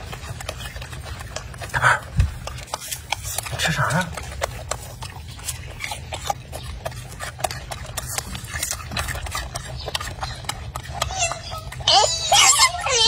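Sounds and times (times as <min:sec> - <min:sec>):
monkey chewing food: 0:00.0 - 0:13.0.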